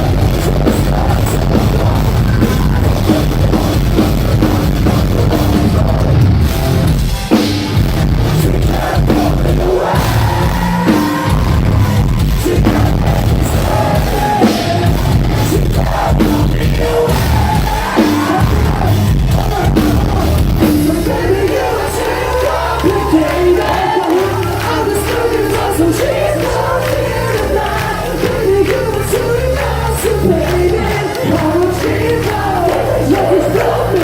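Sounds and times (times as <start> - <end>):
person singing: 0.0 - 3.3, 8.3 - 34.0
live metal band playing: 0.0 - 34.0
pounding drum kit: 0.0 - 34.0.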